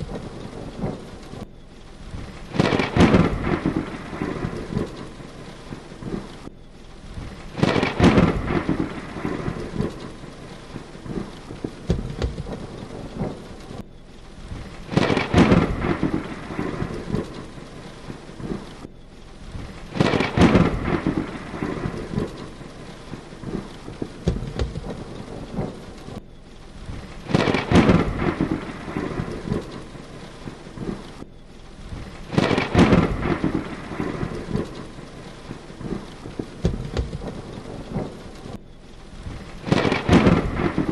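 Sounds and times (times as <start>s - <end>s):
heavy rain: 0.0s - 40.9s
thunder crack and rumble: 0.0s - 40.9s.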